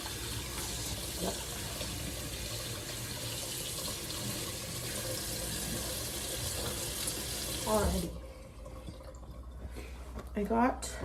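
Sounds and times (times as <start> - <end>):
faucet running into a sink: 0.0 - 9.8
dishes being washed: 0.0 - 11.0.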